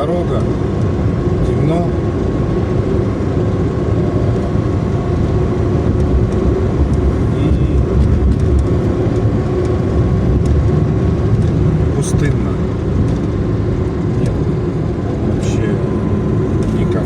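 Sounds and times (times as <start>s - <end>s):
car engine running: 0.0s - 17.0s
tyres rumbling on road: 0.0s - 17.0s.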